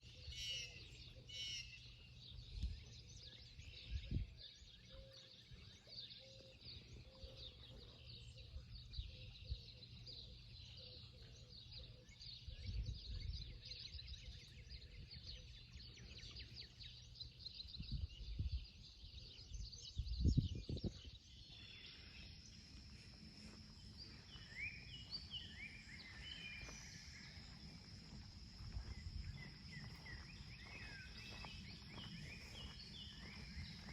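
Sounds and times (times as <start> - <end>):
birds chirping and singing: 0.0 - 33.9.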